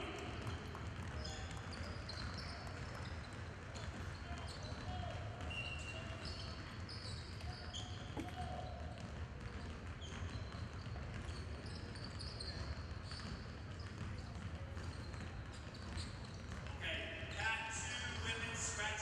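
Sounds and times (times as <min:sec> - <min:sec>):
crowd hubbub in a hall: 0:00.0 - 0:19.0.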